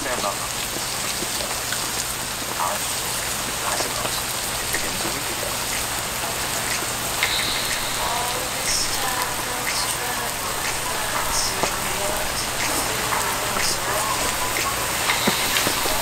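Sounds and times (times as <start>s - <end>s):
rain on a tent: 0.0s - 16.0s.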